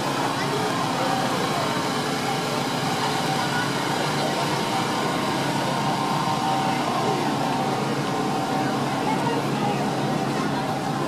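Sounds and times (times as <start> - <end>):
crowd murmur: 0.0 - 11.0
small engine droning: 0.0 - 11.0.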